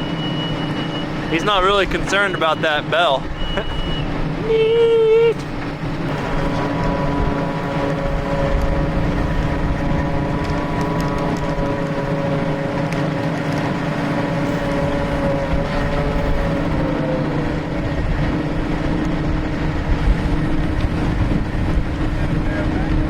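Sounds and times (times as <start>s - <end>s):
diesel engine and hydraulics whining: 0.0s - 23.0s.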